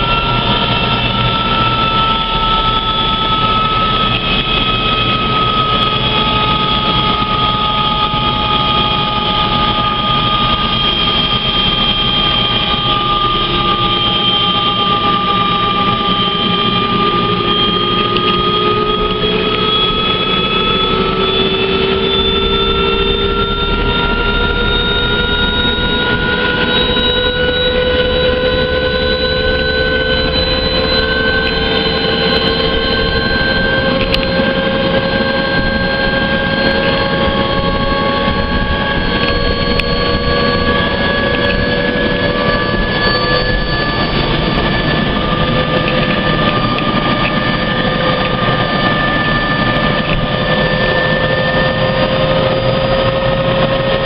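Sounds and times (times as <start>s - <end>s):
helicopter turbine and rotor drone: 0.0s - 54.0s.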